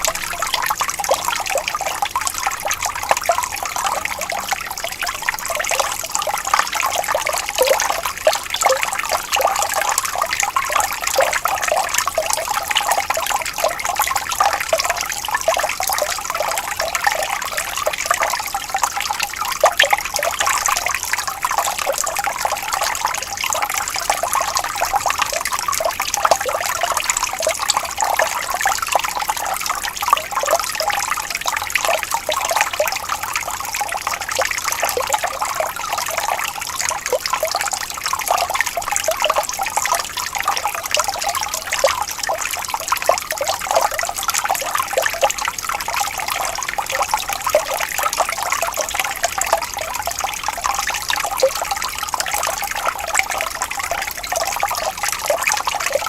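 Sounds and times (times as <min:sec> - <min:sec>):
water flowing and gurgling: 0:00.0 - 0:56.0.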